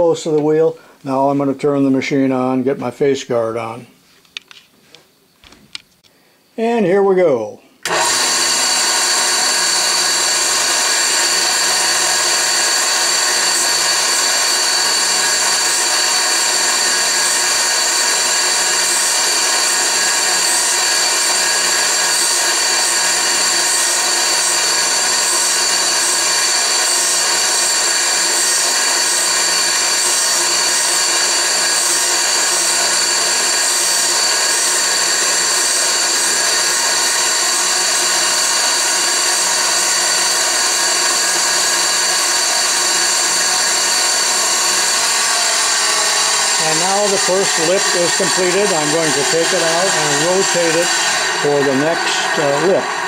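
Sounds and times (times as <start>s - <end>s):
drill bit grinder whining: 7.8s - 53.0s.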